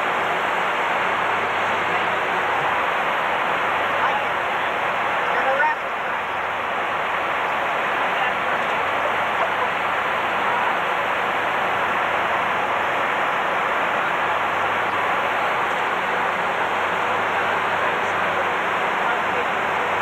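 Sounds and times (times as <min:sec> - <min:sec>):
aircraft cabin airflow and engines: 0:00.0 - 0:20.0.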